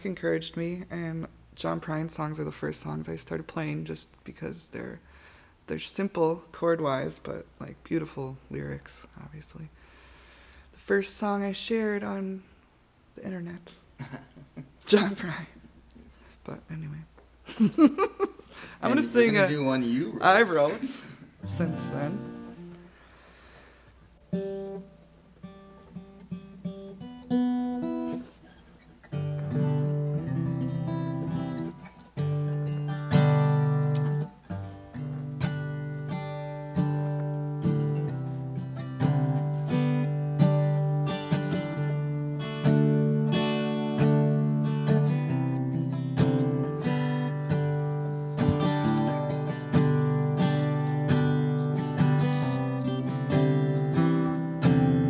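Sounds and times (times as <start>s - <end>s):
acoustic guitar playing: 0.0s - 9.0s, 17.6s - 55.0s.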